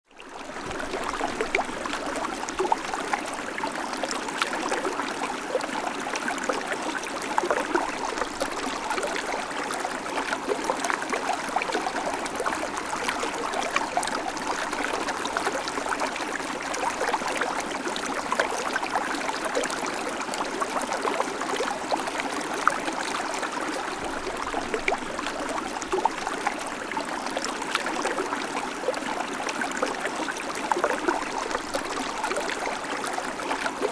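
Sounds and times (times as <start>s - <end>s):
creek babbling over stones: 0.1s - 33.9s.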